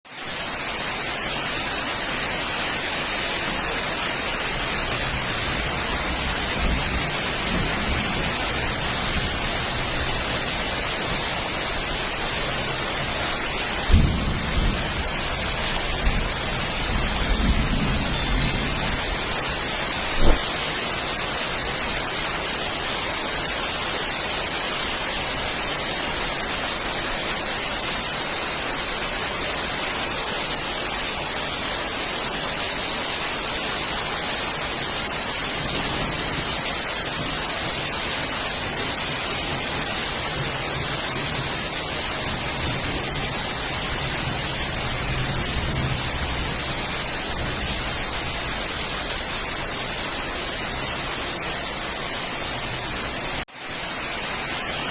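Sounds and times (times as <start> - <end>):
steady rain falling: 0.1 - 17.7, 21.2 - 54.9.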